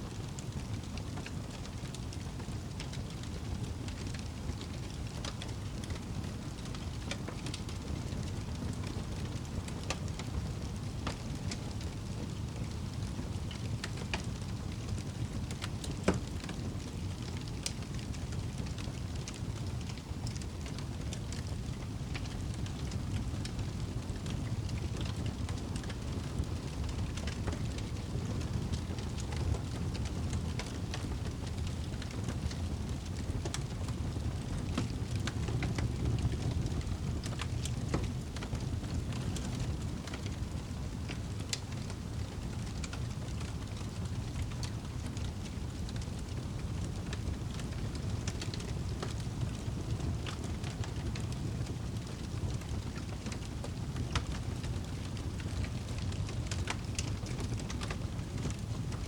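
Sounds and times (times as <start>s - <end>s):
campfire crackling: 0.3s - 59.0s.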